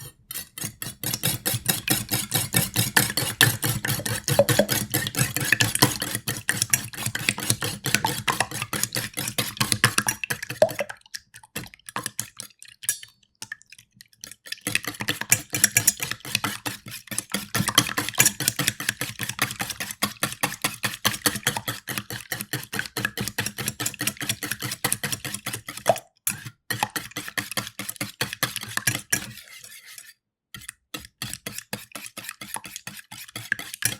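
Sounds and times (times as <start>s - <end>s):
eggs beaten in metal bowl: 0.0s - 13.1s, 13.8s - 33.9s.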